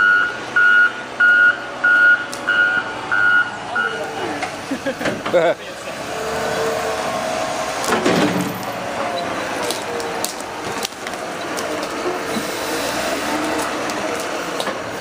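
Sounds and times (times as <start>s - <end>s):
heavy street-clearing machine running: 0.0s - 15.0s.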